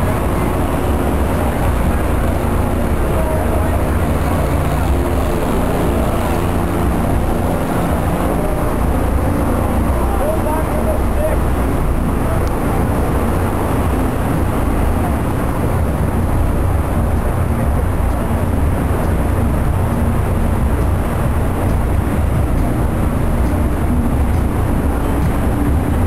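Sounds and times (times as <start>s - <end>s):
ship rumbling: 0.0s - 26.0s.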